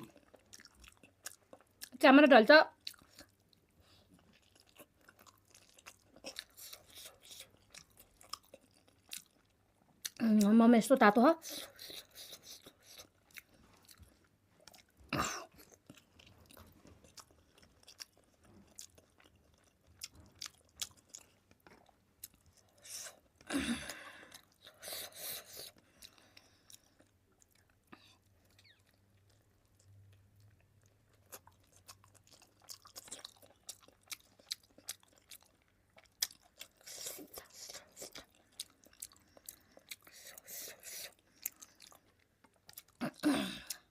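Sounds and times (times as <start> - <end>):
chewing and crunching food: 0.0 - 43.9.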